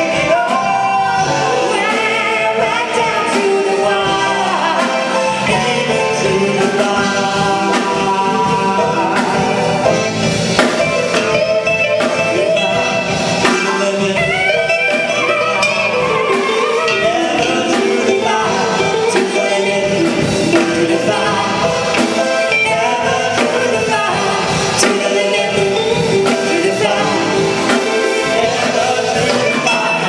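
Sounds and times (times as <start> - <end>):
drum beat: 0.0 - 30.0
live band playing pop ballad: 0.0 - 30.0.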